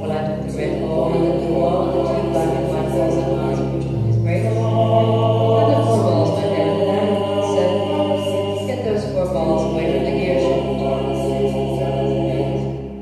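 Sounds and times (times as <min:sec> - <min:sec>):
choir holding long notes: 0:00.0 - 0:13.0
low drone: 0:00.0 - 0:13.0.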